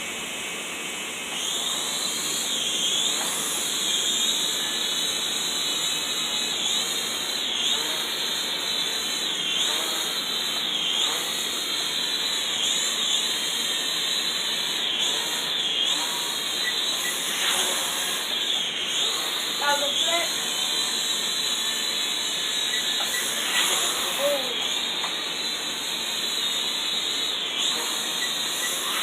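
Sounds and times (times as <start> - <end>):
toy drone propellers whining: 0.0 - 29.0.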